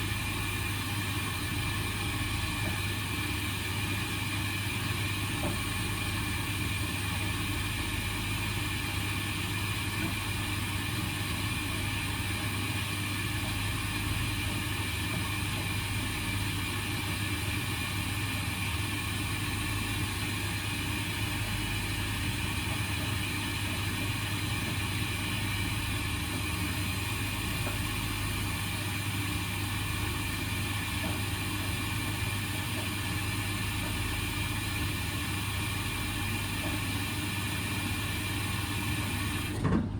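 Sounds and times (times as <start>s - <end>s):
washing machine hum: 0.0s - 39.9s.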